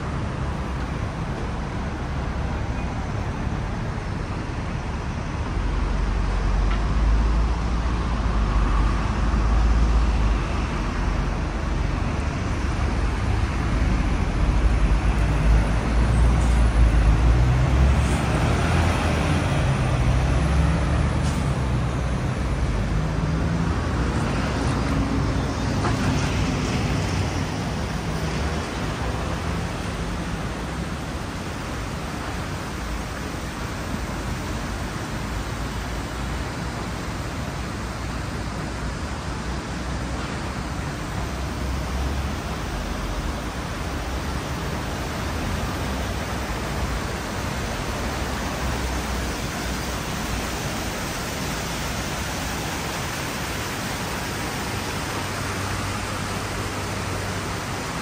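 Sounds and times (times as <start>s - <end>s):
car and bus engines passing: 0.0s - 58.0s.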